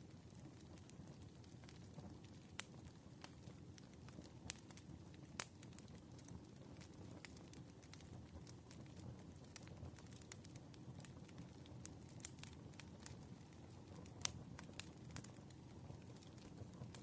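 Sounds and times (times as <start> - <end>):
campfire crackling and popping: 0.0 - 17.0
low rumble of fire: 0.0 - 17.0.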